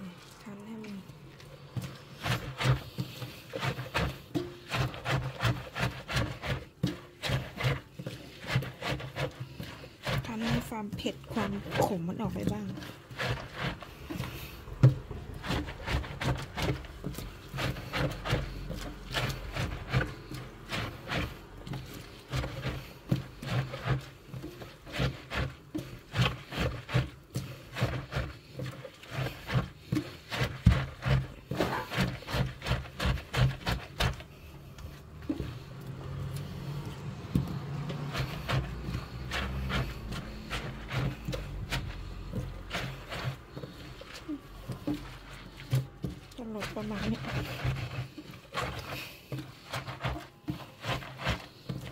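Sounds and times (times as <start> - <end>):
hands squeezing wet leaves: 0.0 - 51.9.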